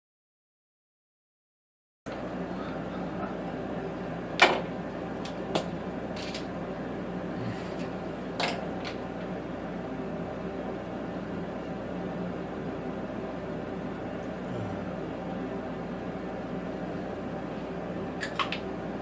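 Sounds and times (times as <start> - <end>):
room hiss and hum: 2.1 - 19.0.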